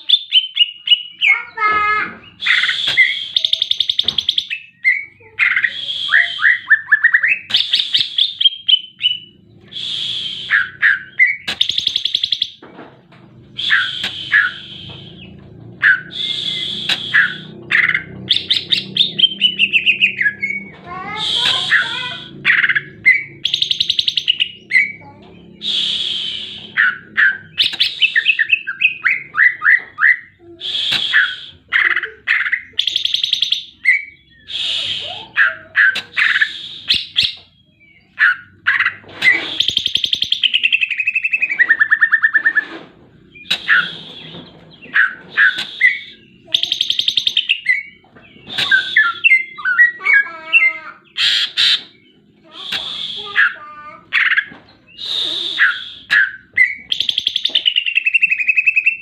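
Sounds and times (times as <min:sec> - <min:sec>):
bird singing whistled phrases: 0:00.0 - 0:01.6, 0:02.2 - 0:12.6, 0:13.6 - 0:42.7, 0:43.4 - 0:59.0.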